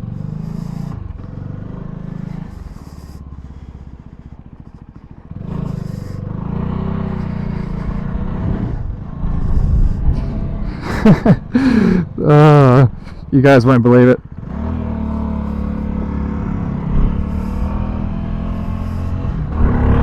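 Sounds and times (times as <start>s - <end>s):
motorcycle engine riding off: 0.0s - 13.4s, 14.2s - 20.0s.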